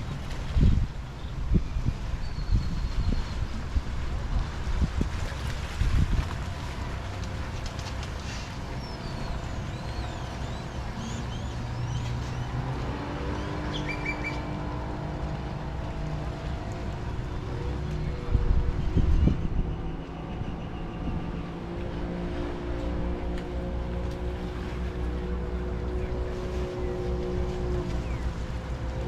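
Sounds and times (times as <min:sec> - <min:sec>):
boat motor humming: 0:00.0 - 0:29.0
water noise: 0:00.0 - 0:29.0
wind buffeting microphone: 0:00.0 - 0:29.0.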